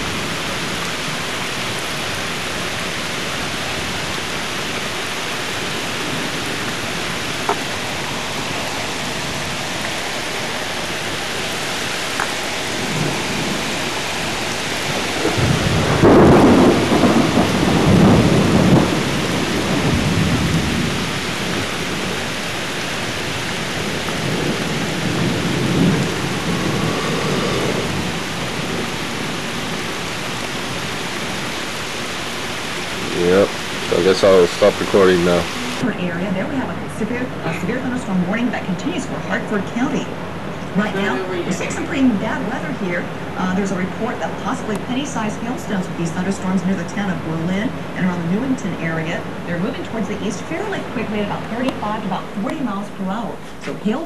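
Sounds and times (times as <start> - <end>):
heavy rain: 0.0 - 54.0
thunder rumbling: 0.0 - 54.0.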